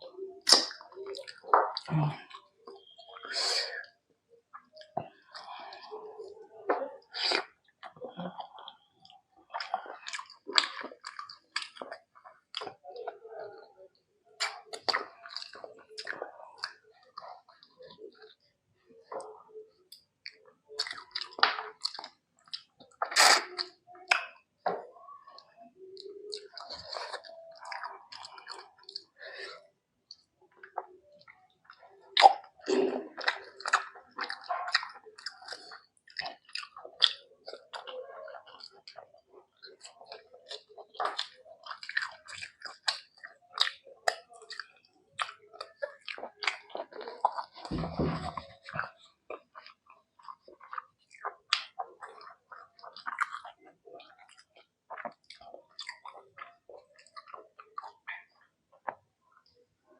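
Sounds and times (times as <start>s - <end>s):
person chewing with wet mouth smacks: 0.4s - 13.2s, 14.4s - 18.4s, 19.0s - 59.6s.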